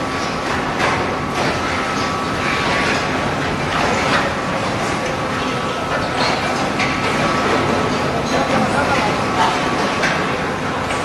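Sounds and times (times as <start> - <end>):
industrial machinery clatter and rumble: 0.0 - 11.0.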